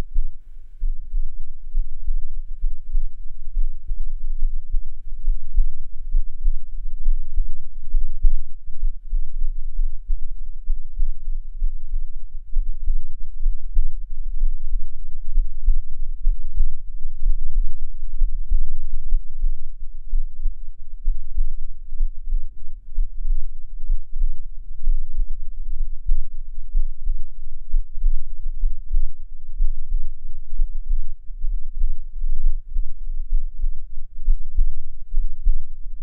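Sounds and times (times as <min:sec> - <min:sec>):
deep rumble: 0:00.0 - 0:36.0
heartbeat thuds: 0:00.0 - 0:36.0.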